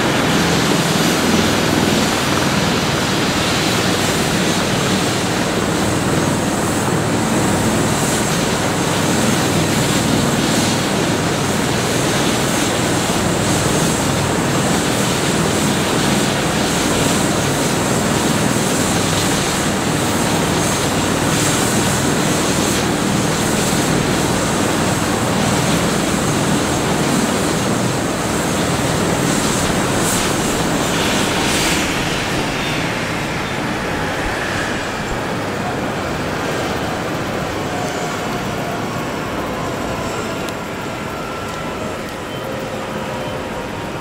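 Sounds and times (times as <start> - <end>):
helicopter engines and rotor: 0.0 - 44.0.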